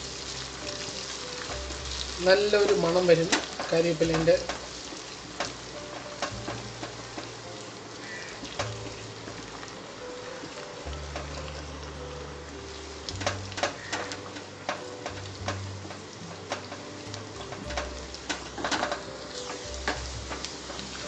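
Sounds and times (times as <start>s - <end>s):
shallots sizzling in oil: 0.0s - 21.0s.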